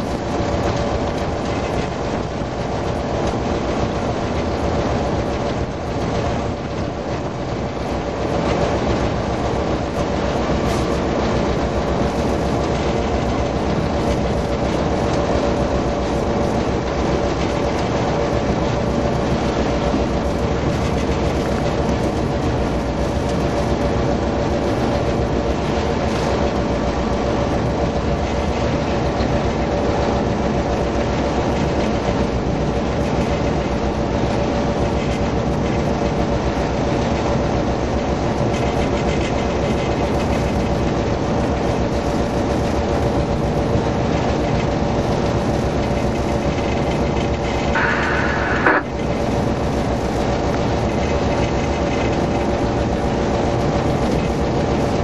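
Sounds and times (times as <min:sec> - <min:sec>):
diesel locomotive engine: 0:00.0 - 0:55.0
steady hum: 0:00.0 - 0:55.0
wheels rolling on rails: 0:00.0 - 0:55.0.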